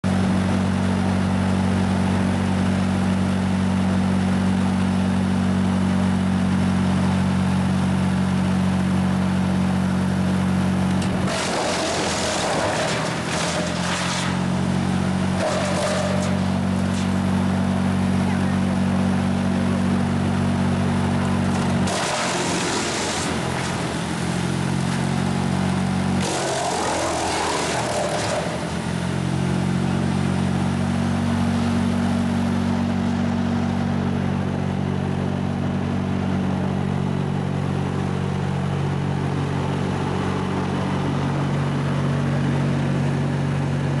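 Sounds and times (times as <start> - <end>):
diesel engine running: 0.0 - 44.0
wood chipper grinding branches: 0.1 - 44.0.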